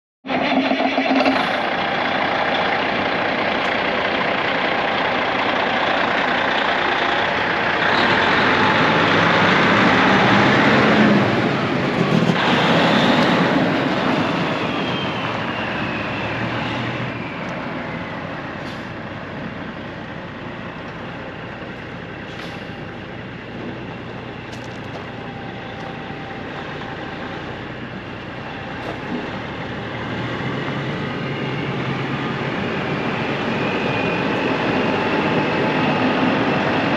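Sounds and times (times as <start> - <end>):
diesel truck pulling away on gravel: 1.2 - 36.9.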